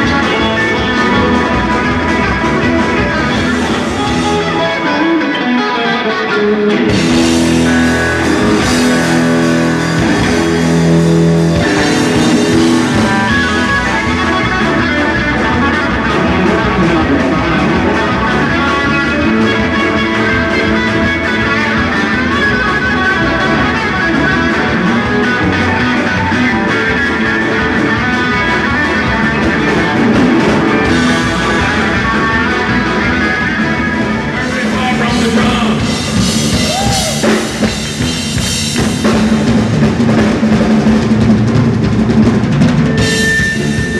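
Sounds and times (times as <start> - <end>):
drum kit: 0.0 - 43.9
rock band playing: 0.0 - 43.9.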